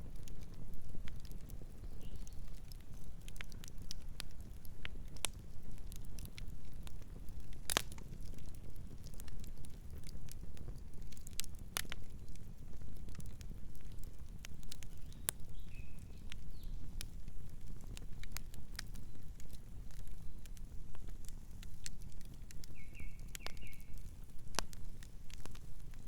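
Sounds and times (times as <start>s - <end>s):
low rumble of flames: 0.0s - 26.0s
wood crackling and popping: 0.0s - 26.0s.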